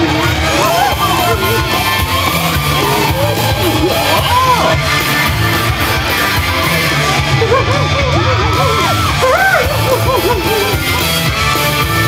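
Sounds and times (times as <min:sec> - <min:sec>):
parade music with steady beat: 0:00.0 - 0:12.0
voices singing and calling out: 0:00.0 - 0:12.0.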